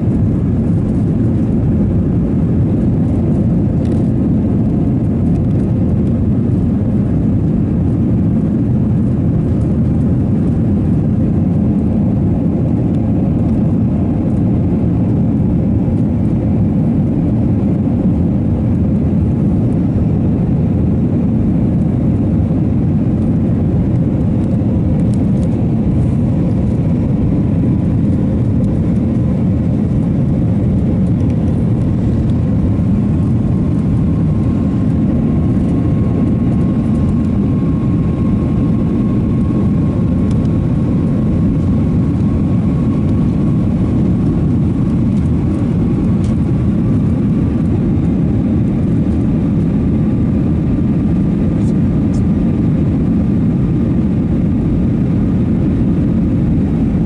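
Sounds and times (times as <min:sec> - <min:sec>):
airliner cabin low rumble: 0:00.0 - 0:57.0.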